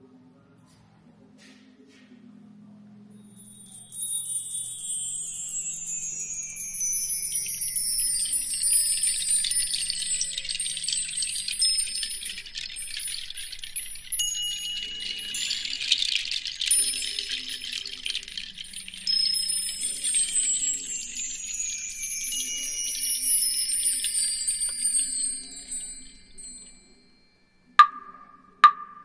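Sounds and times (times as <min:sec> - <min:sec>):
high chime-like tinkling: 0:03.1 - 0:28.6.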